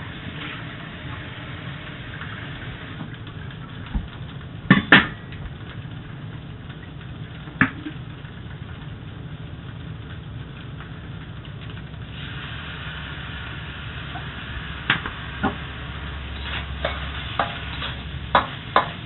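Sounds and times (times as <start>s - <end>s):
rice sizzling in a wok: 0.0s - 3.0s, 4.6s - 19.0s.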